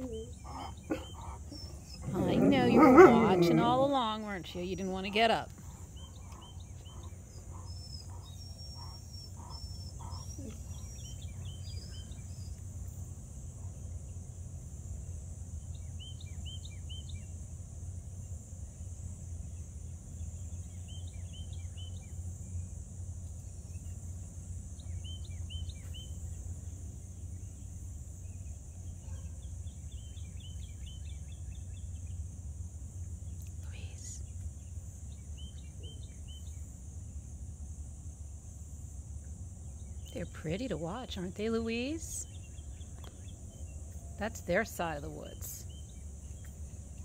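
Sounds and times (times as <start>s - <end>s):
bird chirping: 0.0s - 14.4s, 15.6s - 17.4s, 19.4s - 22.7s, 23.3s - 32.3s, 33.2s - 36.8s, 39.6s - 47.0s
insects droning: 0.0s - 47.0s.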